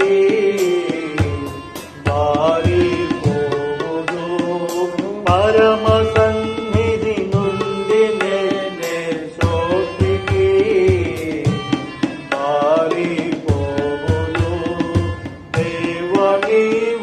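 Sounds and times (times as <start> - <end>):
person singing: 0.0 - 17.0
tabla and instrumental accompaniment: 0.0 - 17.0.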